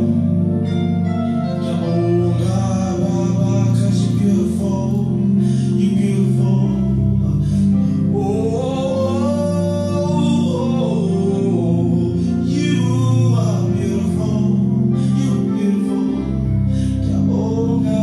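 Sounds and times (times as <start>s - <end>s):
electronic keyboard chords: 0.0s - 18.0s
man singing gospel song: 0.0s - 18.0s.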